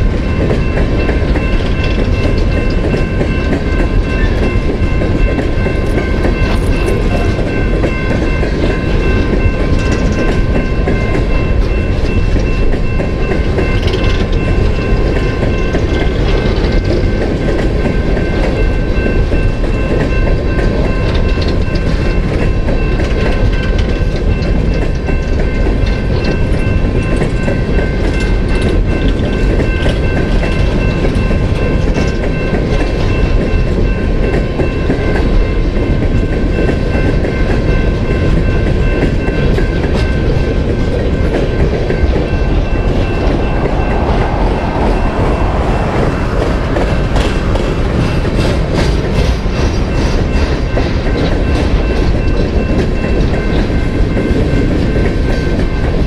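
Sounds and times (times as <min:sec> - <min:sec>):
crossing warning bell ringing: 0:00.0 - 0:56.0
freight train wheels clattering on rail: 0:00.0 - 0:56.0.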